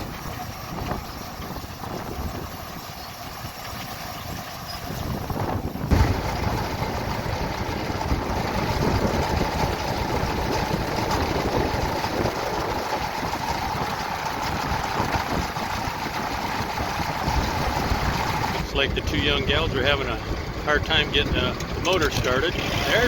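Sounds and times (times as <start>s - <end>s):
harvest machinery engines running: 0.0s - 23.0s.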